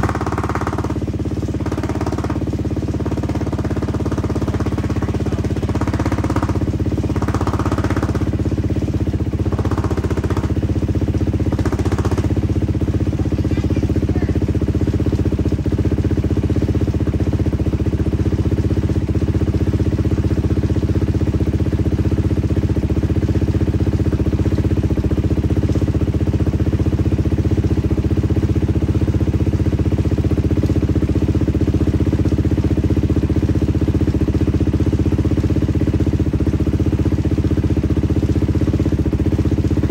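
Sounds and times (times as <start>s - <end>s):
dirt bike engine idling: 0.0s - 39.9s.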